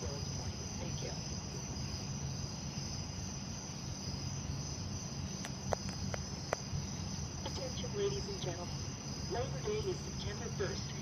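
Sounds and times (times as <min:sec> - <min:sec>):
crickets chirring: 0:00.0 - 0:11.0
low steady rumble: 0:00.0 - 0:11.0.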